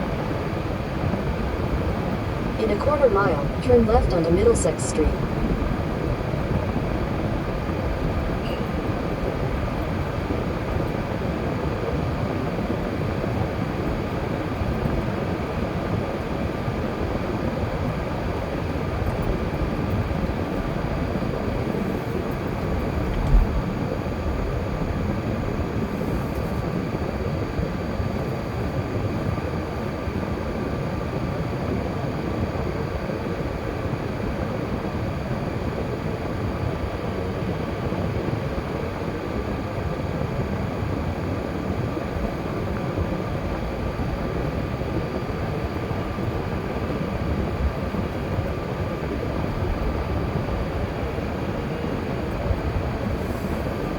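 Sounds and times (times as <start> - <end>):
faint hum: 0.0 - 53.9.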